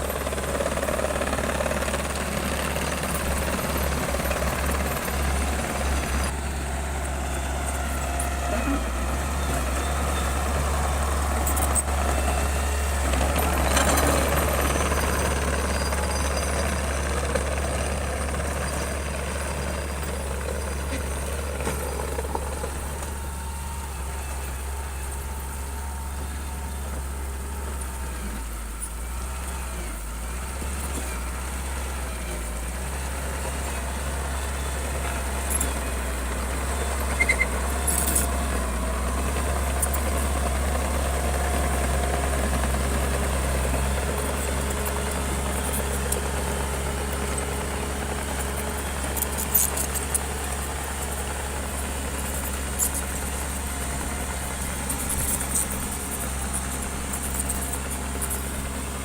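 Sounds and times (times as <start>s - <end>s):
heavy machine engine drone: 0.0s - 59.0s.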